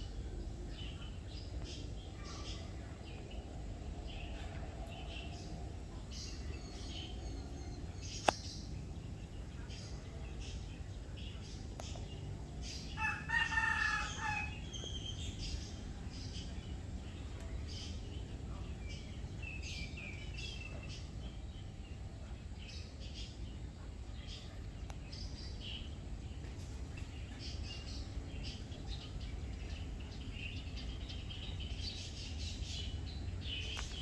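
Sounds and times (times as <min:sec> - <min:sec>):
low background rumble: 0:00.0 - 0:34.0
small birds chirping: 0:00.0 - 0:34.0.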